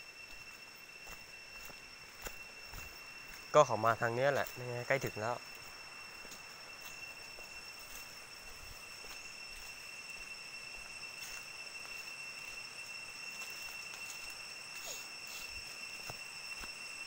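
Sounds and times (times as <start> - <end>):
faint ticks and rustles: 0.0 - 17.0
insects droning: 0.0 - 17.0.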